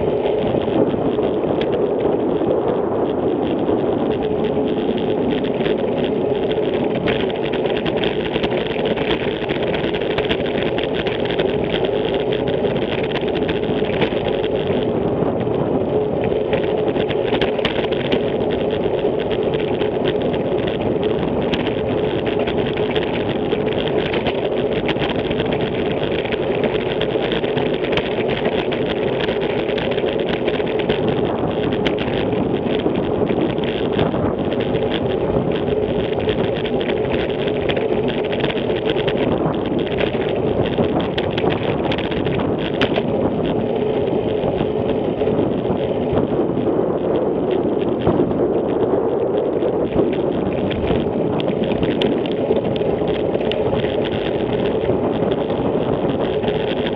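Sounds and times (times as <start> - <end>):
tyres on road: 0.0 - 56.9
wind noise on microphone: 0.0 - 56.9.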